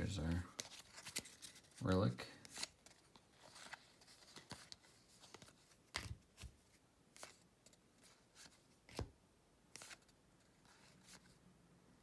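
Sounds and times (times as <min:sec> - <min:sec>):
trading cards flipped by hand: 0:00.2 - 0:11.3.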